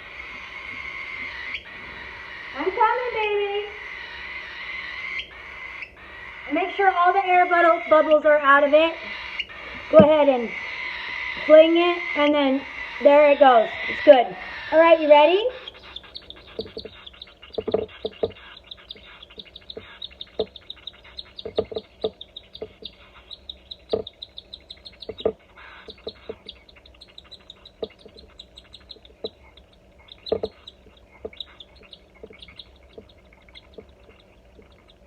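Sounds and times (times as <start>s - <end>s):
cockatiel chick begging chirps: 0.0s - 35.0s.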